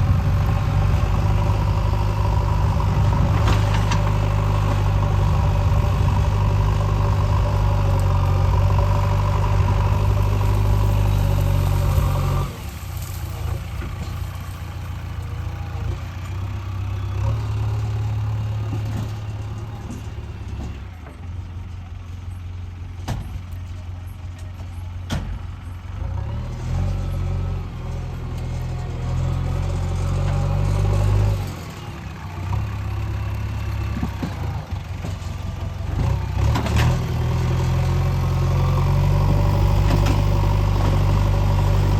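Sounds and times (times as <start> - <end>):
diesel engine working: 0.0 - 41.9.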